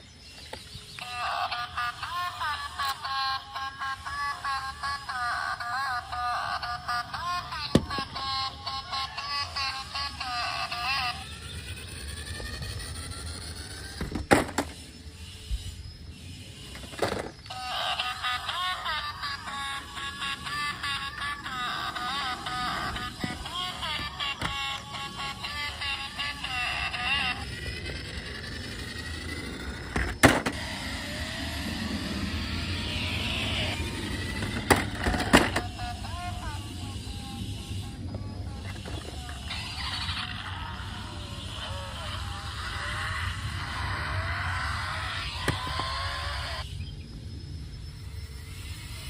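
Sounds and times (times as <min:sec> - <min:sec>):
small electric motor whirring: 0:00.0 - 0:46.8, 0:48.0 - 0:49.0
faint rising whine: 0:07.8 - 0:18.1, 0:18.9 - 0:49.0.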